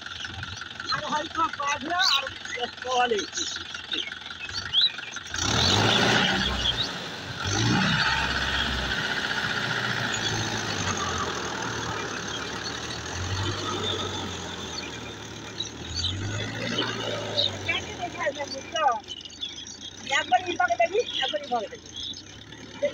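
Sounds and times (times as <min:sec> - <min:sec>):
rotary tiller churning soil: 0:00.0 - 0:22.9
tractor diesel engine drone: 0:00.0 - 0:22.9.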